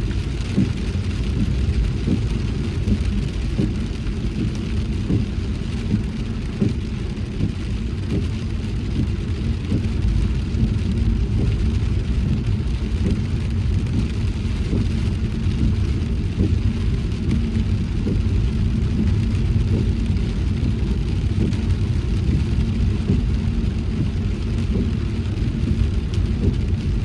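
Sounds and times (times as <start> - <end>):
rain and wet tyres hiss: 0.0 - 27.0
road and engine rumble: 0.0 - 27.0.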